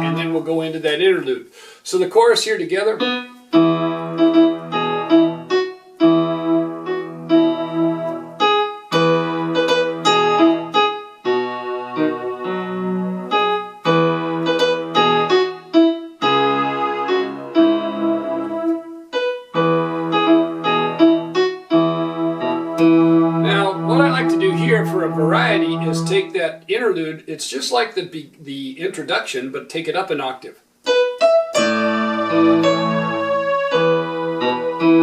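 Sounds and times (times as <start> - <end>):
electronic keyboard playing hymn: 0.0 - 0.8, 2.8 - 26.8, 30.8 - 35.0.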